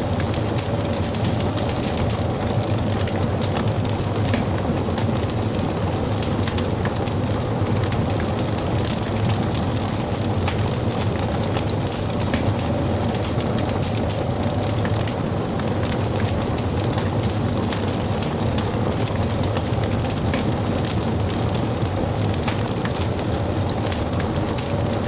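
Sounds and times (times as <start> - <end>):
burning wood crackling and popping: 0.0 - 25.0
low rumble of flames: 0.0 - 25.0.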